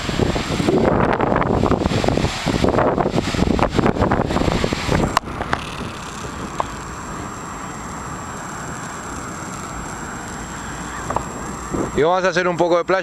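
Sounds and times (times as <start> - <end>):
wind buffeting microphone: 0.0 - 12.2
wind and surf: 0.0 - 13.0.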